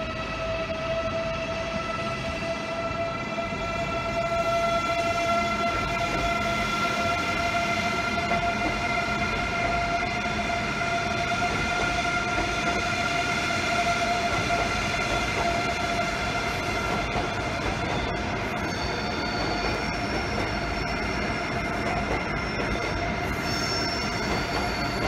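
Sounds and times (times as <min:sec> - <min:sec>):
train high-pitched whine: 0:00.0 - 0:25.0
wheels rumbling on rail: 0:00.0 - 0:25.0.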